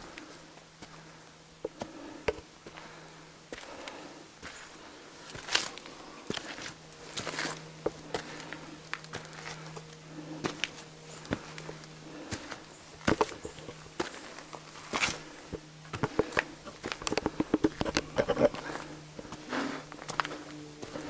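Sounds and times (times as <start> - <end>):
footsteps crunching on stony trail: 0.0 - 21.0
low insect buzz: 0.0 - 21.0.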